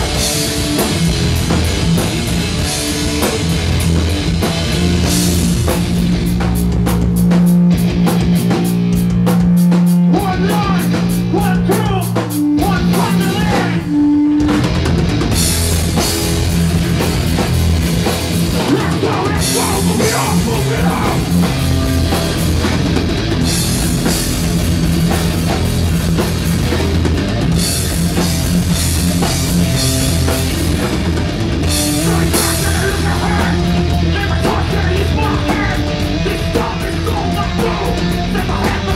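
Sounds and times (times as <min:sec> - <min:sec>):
distorted guitars and bass: 0:00.0 - 0:38.9
fast drumming: 0:00.0 - 0:38.9.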